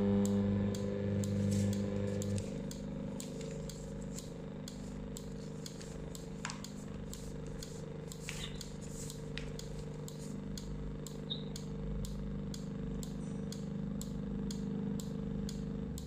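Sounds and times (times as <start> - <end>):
actuator motors humming: 0.0 - 16.0.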